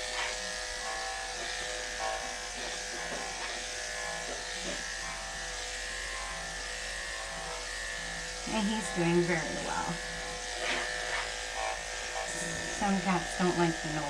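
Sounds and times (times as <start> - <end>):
electric clippers buzzing: 0.0 - 14.0.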